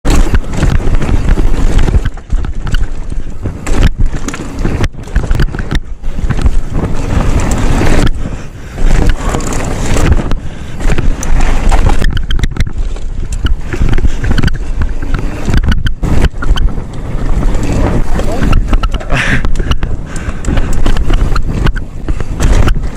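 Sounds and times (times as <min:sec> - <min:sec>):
bike rattling: 0:00.0 - 0:22.9
tyres rolling over rough ground: 0:00.0 - 0:22.9
wind rushing on microphone: 0:00.0 - 0:22.9.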